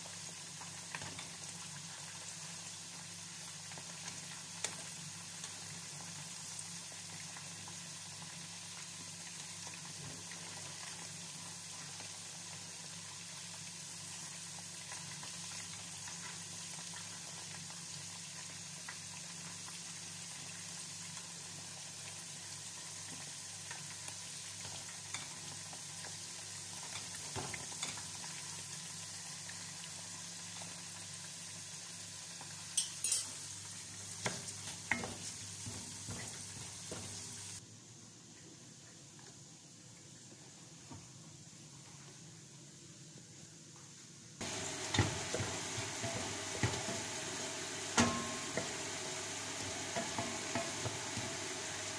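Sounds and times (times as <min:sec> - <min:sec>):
potato wedges sizzling in oil: 0:00.0 - 0:37.6, 0:43.9 - 0:51.9.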